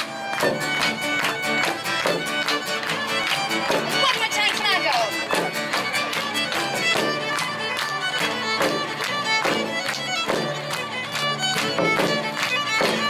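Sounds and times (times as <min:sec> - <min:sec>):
frame drum beat: 0:00.0 - 0:07.8, 0:08.4 - 0:13.0
fiddle melody: 0:00.0 - 0:13.0
hand claps: 0:00.0 - 0:13.0
strummed acoustic guitar: 0:00.0 - 0:13.0.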